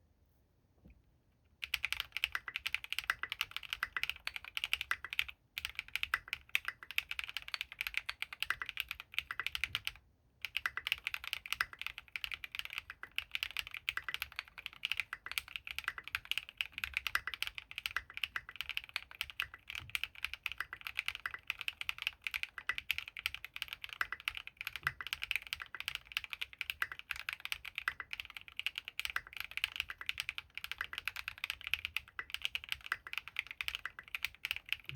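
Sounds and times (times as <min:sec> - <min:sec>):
mechanical keyboard typing: 0:01.6 - 0:34.9.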